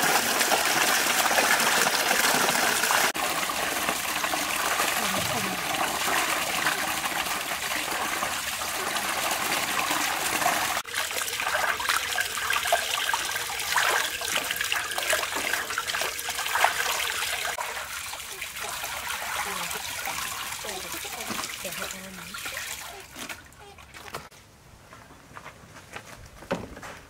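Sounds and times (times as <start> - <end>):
small water splashes: 0.0 - 24.3
water trickling and splashing: 0.0 - 24.3.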